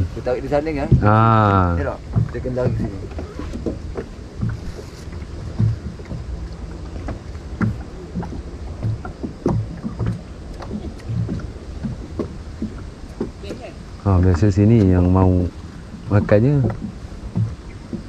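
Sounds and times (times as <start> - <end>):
low steady rumble: 0.0 - 18.0
short splashes: 0.0 - 18.0
water lapping against boat hull: 0.0 - 18.0.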